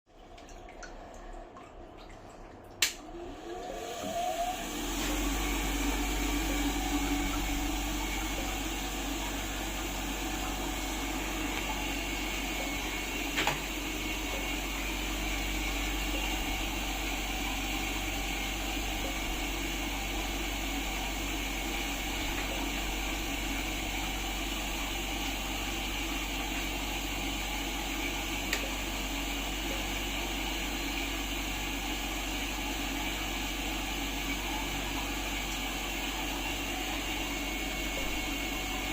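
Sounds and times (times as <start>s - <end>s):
low motor hum: 0.1s - 38.9s
humidifier whirring hiss: 2.8s - 38.9s.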